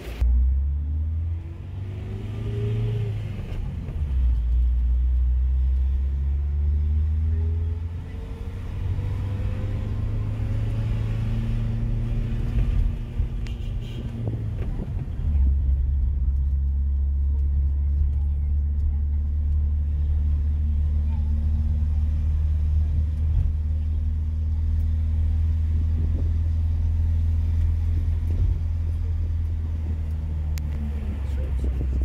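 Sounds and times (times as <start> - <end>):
bus engine accelerating: 0.0 - 32.0.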